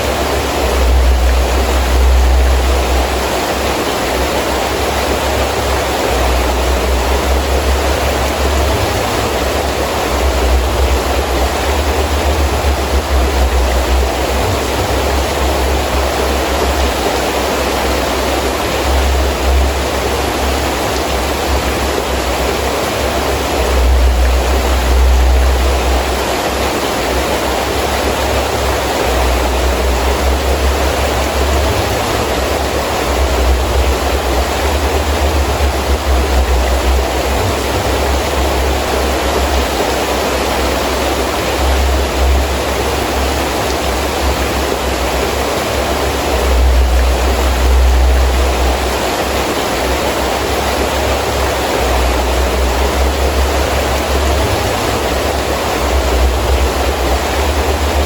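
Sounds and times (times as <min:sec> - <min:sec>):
gusting wind: 0:00.0 - 0:58.0
heavy rain falling: 0:00.0 - 0:58.0.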